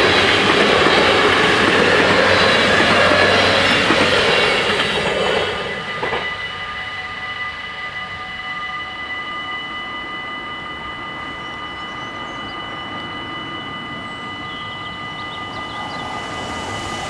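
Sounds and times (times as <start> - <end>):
level crossing bells ringing: 0.0 - 17.0.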